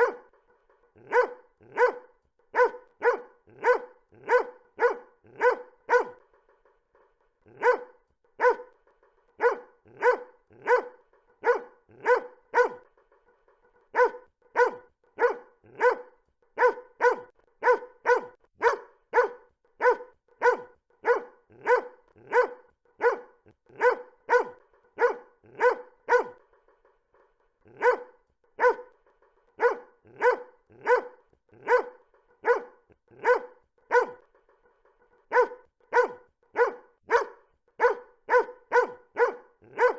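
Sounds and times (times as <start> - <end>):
dog barking: 0.0 - 0.4, 1.0 - 6.3, 7.5 - 8.8, 9.4 - 13.0, 13.9 - 26.5, 27.7 - 34.4, 35.3 - 39.9.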